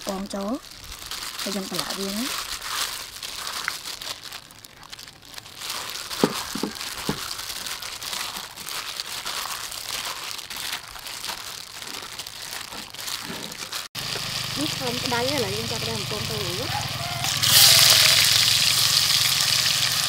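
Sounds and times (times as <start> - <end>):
plastic glove crinkling: 0.0 - 18.5.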